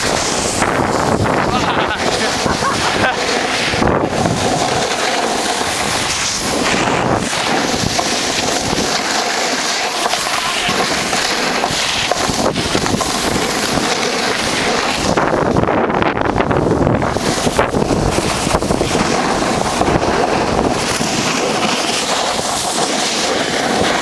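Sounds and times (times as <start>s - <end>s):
snowboard scraping snow: 0.0s - 24.0s
wind on microphone: 0.0s - 24.0s.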